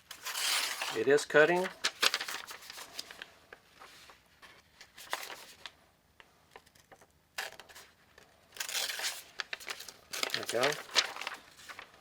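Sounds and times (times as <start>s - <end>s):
paper rustling: 0.0s - 5.8s, 6.6s - 12.0s.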